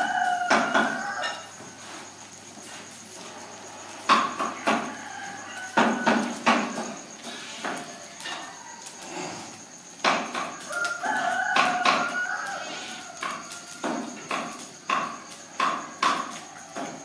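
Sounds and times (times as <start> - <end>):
rooster crowing: 0.0 - 2.2, 3.2 - 17.0
sharp knocks and crackles: 0.3 - 12.3, 13.0 - 17.0.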